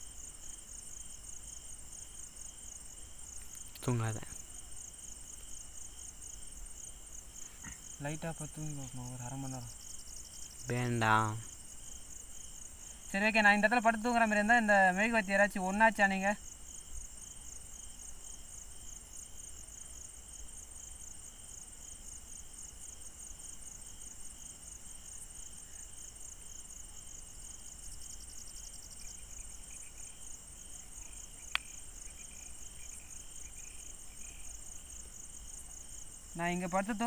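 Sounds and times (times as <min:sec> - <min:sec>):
crickets chirping: 0:00.0 - 0:37.0
lower insect trill: 0:00.0 - 0:37.0.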